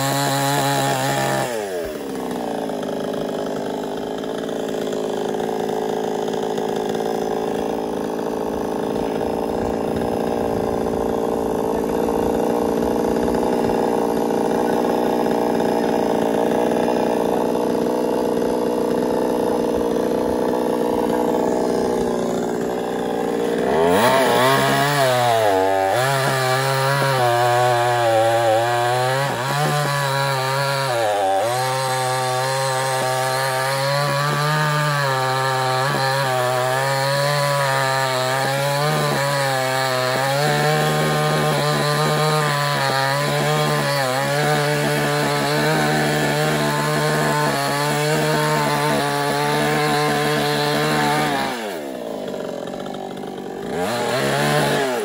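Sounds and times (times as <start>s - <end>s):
chainsaw cutting tree trunk: 0.0s - 55.0s.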